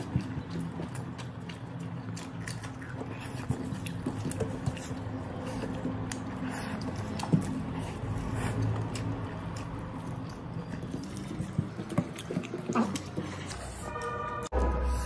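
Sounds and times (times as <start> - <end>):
chewing and mouth noises: 0.0 - 15.0.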